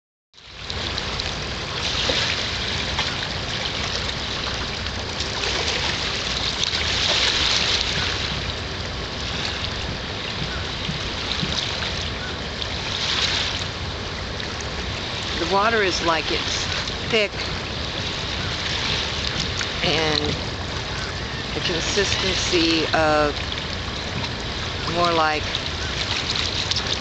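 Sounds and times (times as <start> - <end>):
steady low rumble: 0.5 - 27.0.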